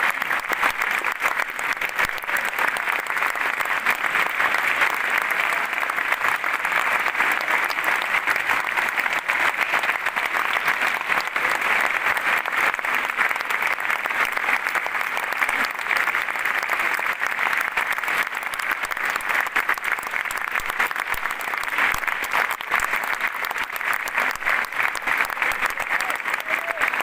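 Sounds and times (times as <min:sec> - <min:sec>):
large audience applauding: 0:00.0 - 0:27.0.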